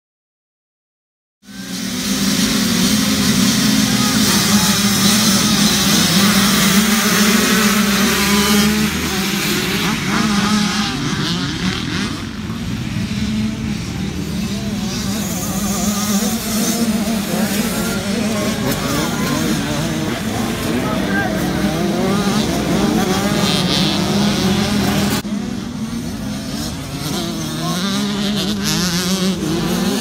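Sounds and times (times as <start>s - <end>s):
motocross bikes revving: 1.4s - 30.0s.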